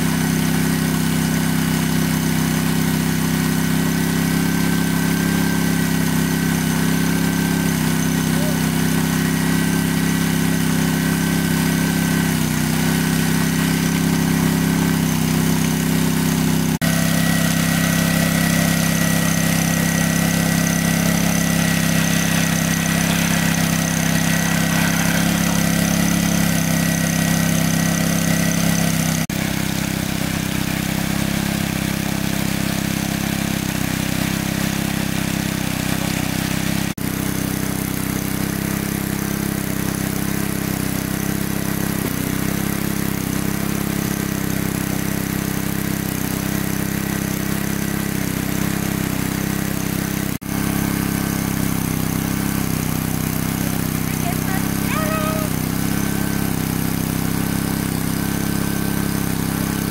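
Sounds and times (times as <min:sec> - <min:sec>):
water pump engine running: 0:00.0 - 0:59.9.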